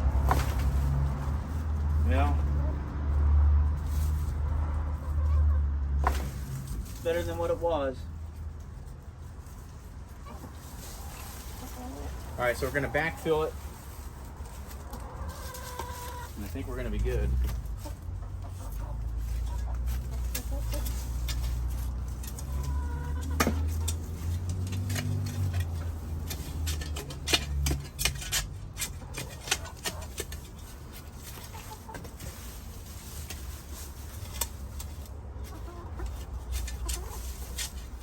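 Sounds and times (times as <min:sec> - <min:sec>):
hens clucking: 0:03.8 - 0:06.3, 0:09.5 - 0:38.0.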